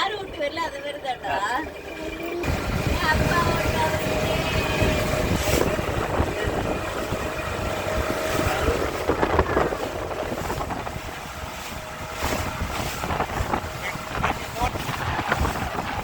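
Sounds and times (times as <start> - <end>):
boat motor humming: 0.0 - 16.0
wind buffeting microphone: 1.6 - 16.0.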